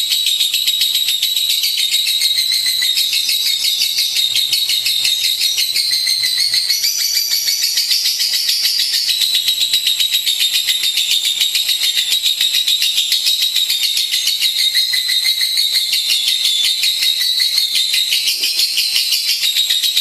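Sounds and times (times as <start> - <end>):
bird chattering trill: 0.0 - 20.0.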